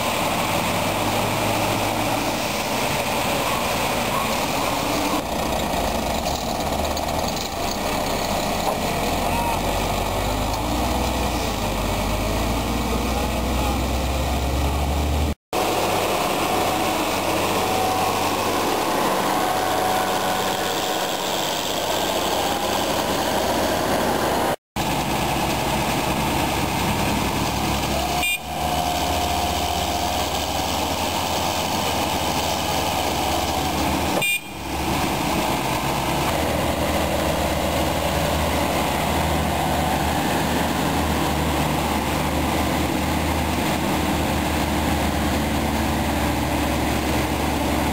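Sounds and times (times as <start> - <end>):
tractor diesel engines running hard: 0.0 - 47.9.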